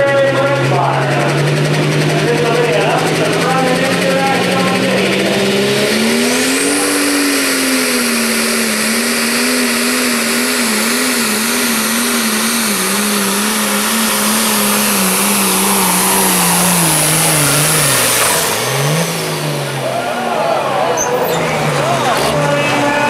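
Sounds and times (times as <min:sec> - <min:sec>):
diesel tractor engine under load: 0:00.0 - 0:23.0.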